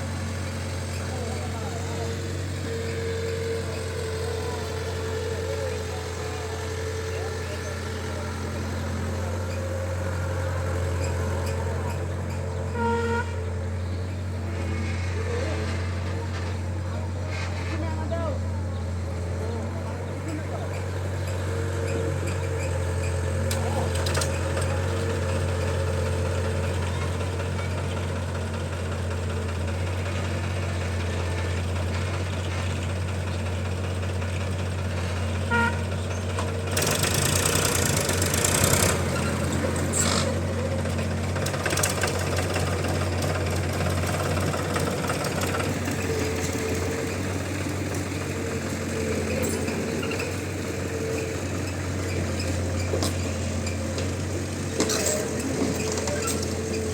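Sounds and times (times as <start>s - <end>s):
diesel engine humming: 0.0s - 56.9s.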